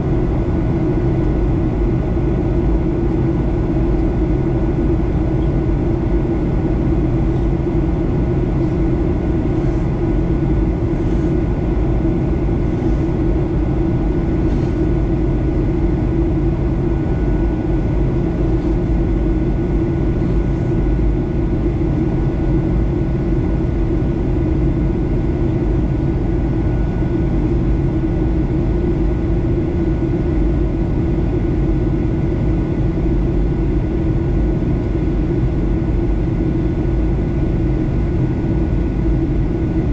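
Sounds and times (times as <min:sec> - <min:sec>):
airliner cabin drone: 0:00.0 - 0:39.9
faint high steady whines: 0:00.0 - 0:39.9.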